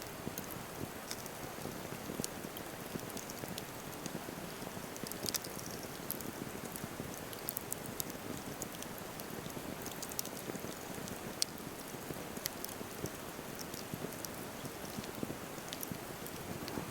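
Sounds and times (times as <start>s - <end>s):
wood crackling and popping: 0.1s - 16.9s
campfire flames rushing: 0.2s - 16.9s.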